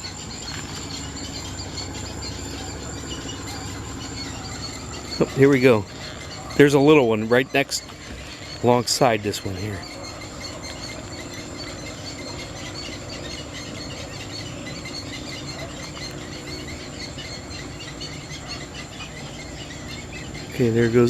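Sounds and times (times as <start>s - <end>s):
birds chirping: 0.0s - 21.0s
insects chirping: 0.0s - 21.0s.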